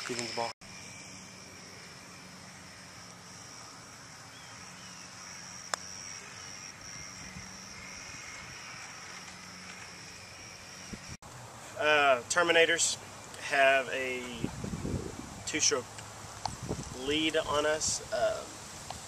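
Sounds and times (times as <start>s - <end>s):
thin high buzz: 0.0s - 19.0s.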